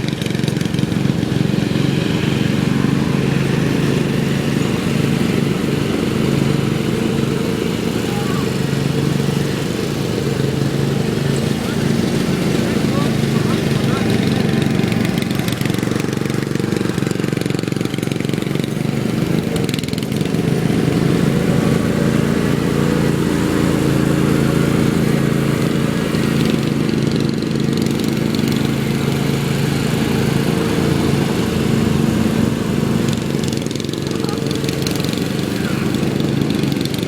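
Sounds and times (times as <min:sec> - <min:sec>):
riding lawn mower engine running: 0:00.0 - 0:37.0.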